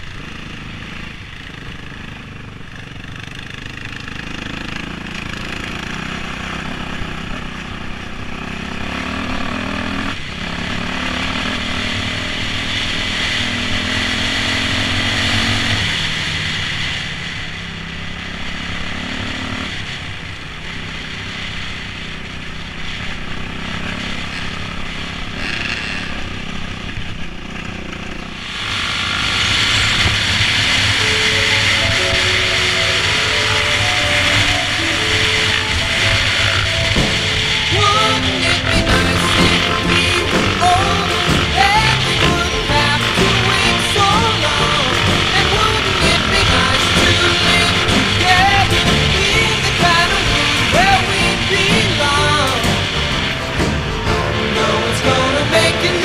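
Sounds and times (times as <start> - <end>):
motorcycle engine revving: 0.0 - 56.0
riding noise rushing: 0.0 - 56.0.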